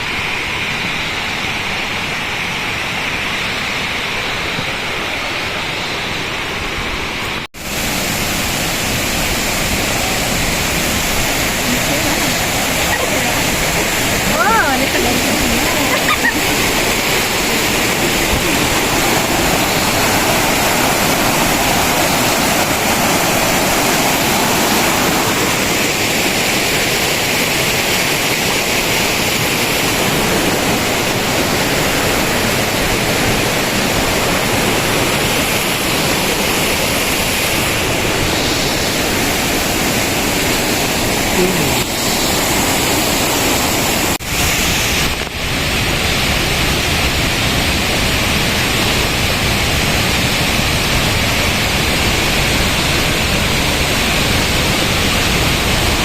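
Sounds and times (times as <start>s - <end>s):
waterfall pouring: 7.5s - 56.0s.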